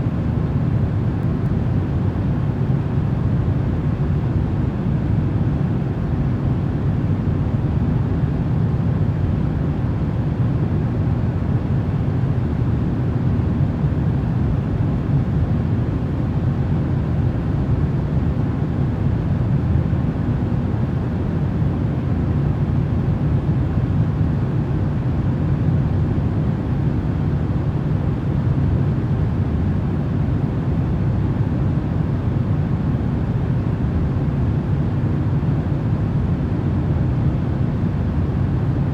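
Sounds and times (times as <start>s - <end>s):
low rumbling white noise: 0.0s - 38.9s.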